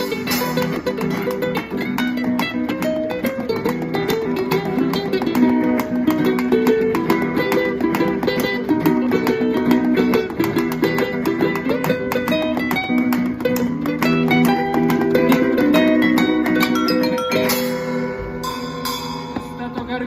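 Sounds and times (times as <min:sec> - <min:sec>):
acoustic guitar and ukulele strumming: 0:00.0 - 0:20.0.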